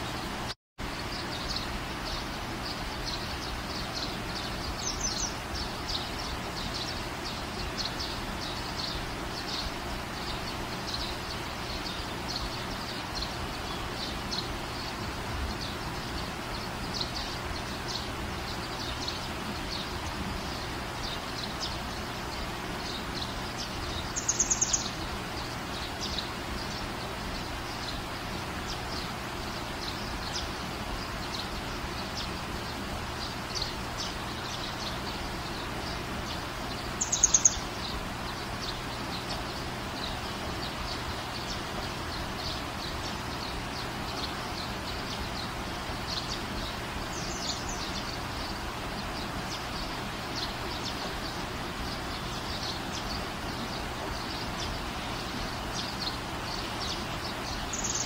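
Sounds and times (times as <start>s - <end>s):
small birds chirping: 0.0s - 58.0s
steady background hiss: 0.0s - 58.0s.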